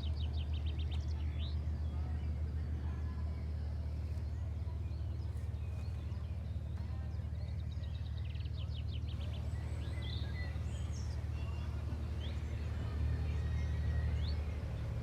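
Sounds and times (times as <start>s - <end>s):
small birds chirping: 0.0s - 2.6s, 3.4s - 15.0s.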